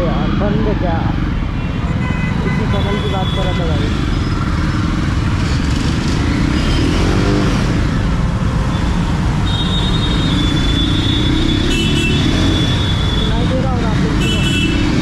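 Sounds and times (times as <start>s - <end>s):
road and wind noise: 0.0s - 15.0s
steady high tone from traffic: 0.0s - 15.0s.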